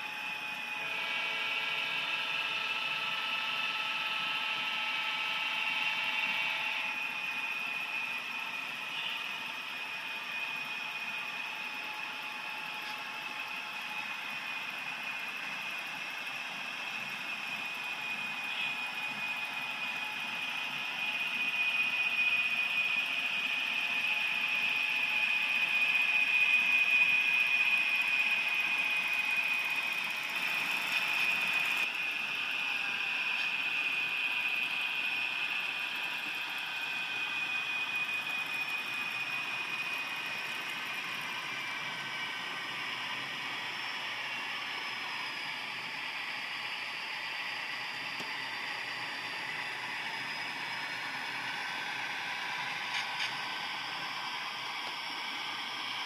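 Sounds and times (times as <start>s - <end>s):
model train motor whine: 0.0s - 56.0s.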